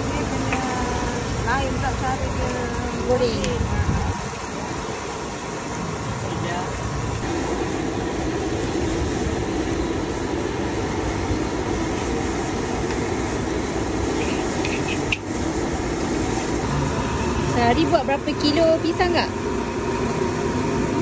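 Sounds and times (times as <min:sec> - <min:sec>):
hot oil sizzling and bubbling: 0:00.0 - 0:21.0.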